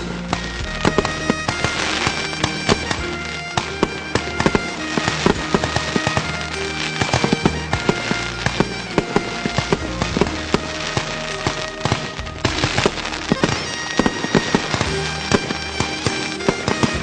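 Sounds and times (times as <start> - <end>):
fireworks popping and cracking: 0.0 - 17.0
music with long held notes: 0.0 - 17.0.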